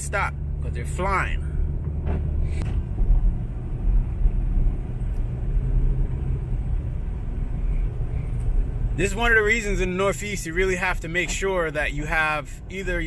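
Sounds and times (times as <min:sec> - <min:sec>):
car driving on snow: 0:00.0 - 0:13.0.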